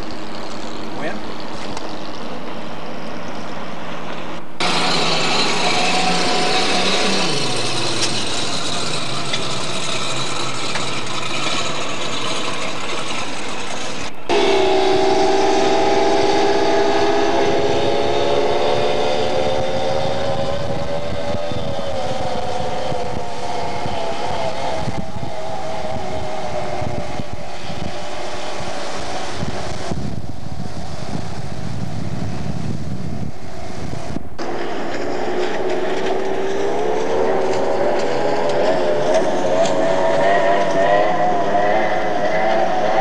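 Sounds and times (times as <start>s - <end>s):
speedboat engine whining: 0.0s - 43.0s.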